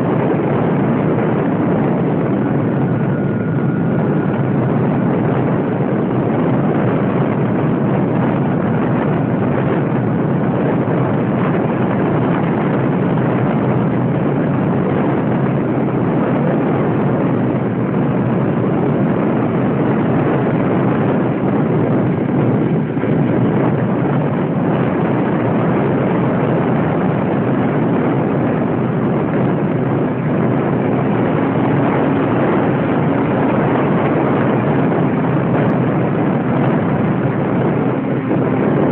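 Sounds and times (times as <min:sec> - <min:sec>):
model airplane motor and propeller: 0:00.0 - 0:38.9.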